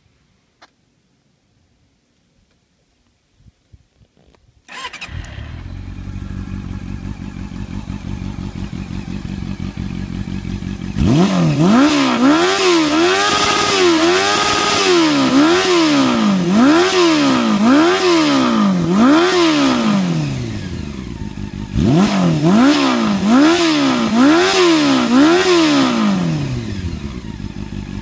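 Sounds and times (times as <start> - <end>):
motorcycle engine revving: 4.7 - 28.0.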